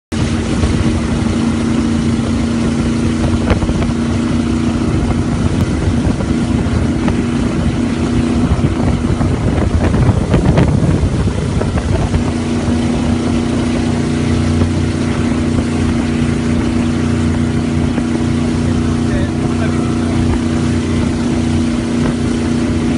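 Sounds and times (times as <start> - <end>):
boat engine droning: 0.1 - 22.9
rushing boat wake: 0.1 - 22.9.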